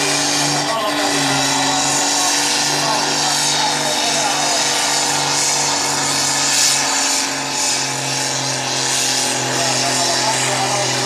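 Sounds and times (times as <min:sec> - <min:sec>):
diesel tractor engine under load: 0:00.0 - 0:11.0.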